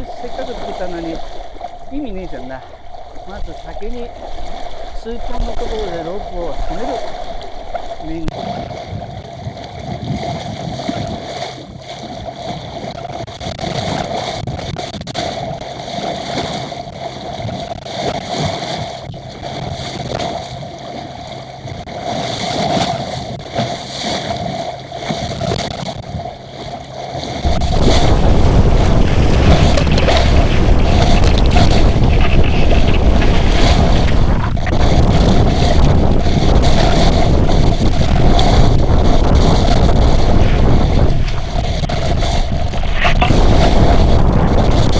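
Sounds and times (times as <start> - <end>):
water rushing along hull: 0.0 - 44.9
wind: 0.0 - 44.9
wind buffeting on microphone: 0.0 - 44.9.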